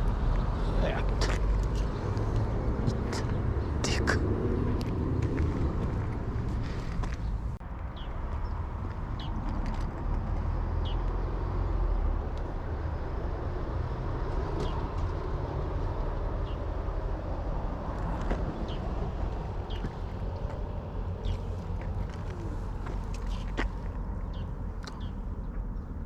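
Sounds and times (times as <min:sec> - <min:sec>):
steady outdoor rumble: 0:00.0 - 0:26.0.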